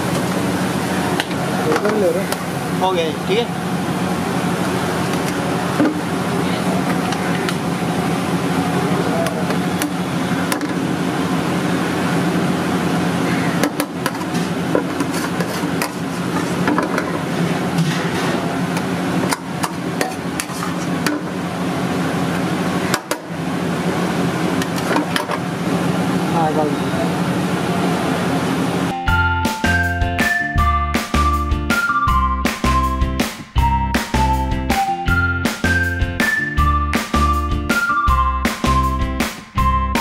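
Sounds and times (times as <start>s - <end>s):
steady kitchen hum: 0.0s - 36.9s.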